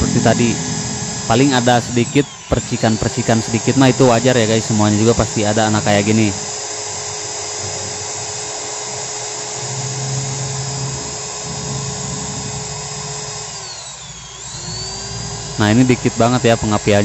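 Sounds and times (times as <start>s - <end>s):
electric drill whining: 0.0s - 17.0s.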